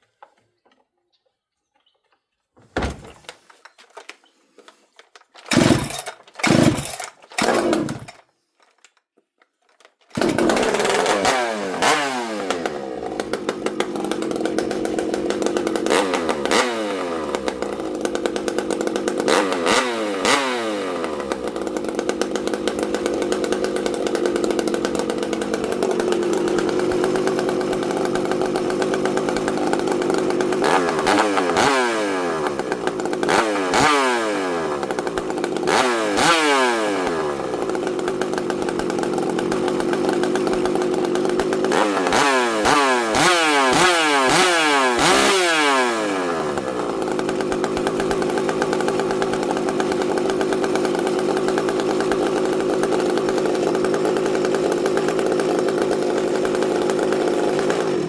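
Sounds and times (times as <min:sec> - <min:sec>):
chainsaw starter cord pulls: 0:02.8 - 0:58.0
chainsaw engine revving: 0:05.3 - 0:08.2, 0:10.1 - 0:58.0.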